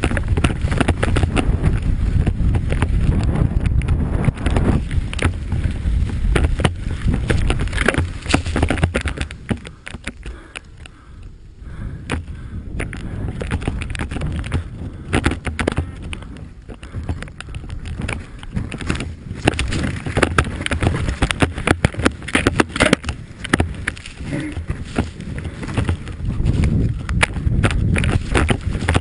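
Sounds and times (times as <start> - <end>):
knocks and thumps: 0.0 - 10.3, 12.1 - 29.0
wind rumbling on microphone: 0.0 - 29.0.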